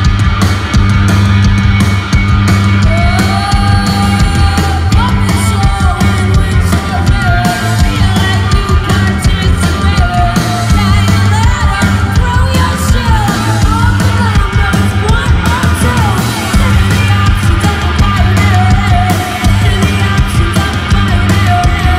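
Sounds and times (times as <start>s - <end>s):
bass guitar: 0.0s - 21.9s
drums: 0.0s - 21.9s
electric guitar: 0.0s - 21.9s
woman singing into microphone: 2.8s - 21.9s.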